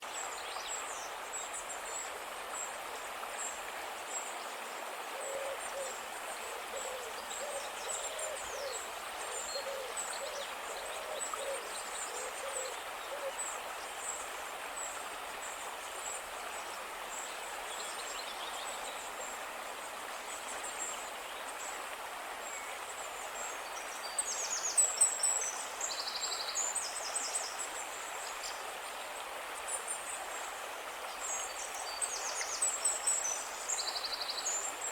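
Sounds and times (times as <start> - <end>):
soft even hiss: 0.0 - 34.9.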